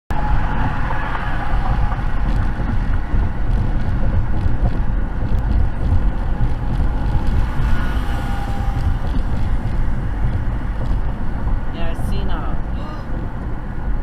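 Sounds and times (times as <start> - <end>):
vehicle rumble on the move: 0.1 - 14.0
wind and road noise: 0.1 - 14.0.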